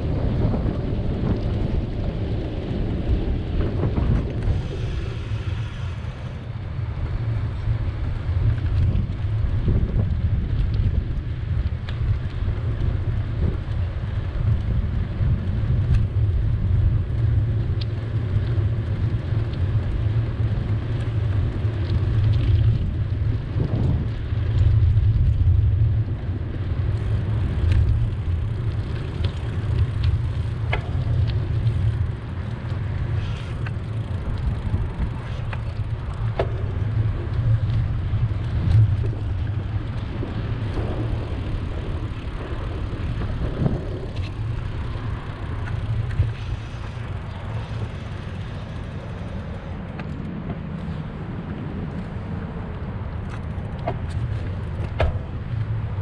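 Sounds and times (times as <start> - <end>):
bicycle rumble on road: 0.0 - 56.0
city street traffic: 0.0 - 56.0.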